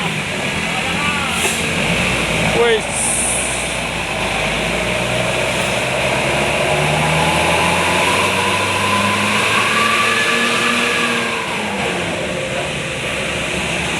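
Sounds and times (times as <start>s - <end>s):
heavy vehicle engine running: 0.0s - 13.9s
road noise: 0.0s - 13.9s.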